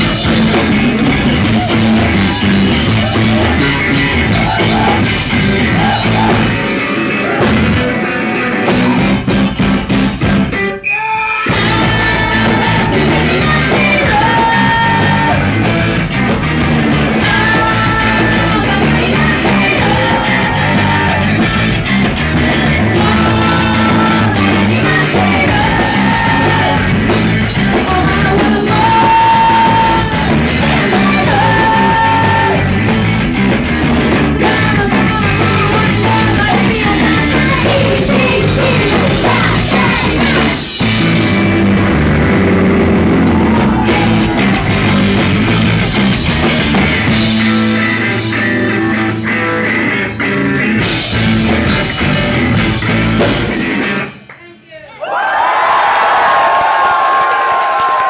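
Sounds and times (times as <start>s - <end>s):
live rock band playing loudly: 0.0s - 54.3s.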